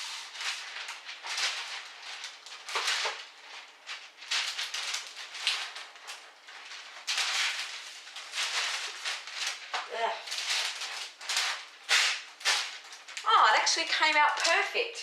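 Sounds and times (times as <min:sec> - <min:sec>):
baking paper rustling and crinkling: 0:00.0 - 0:15.0.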